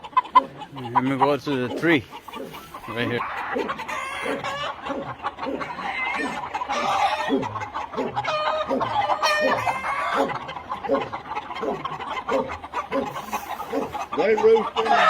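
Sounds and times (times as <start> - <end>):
chickens clucking: 0.0 - 15.0
roosters crowing: 0.0 - 15.0.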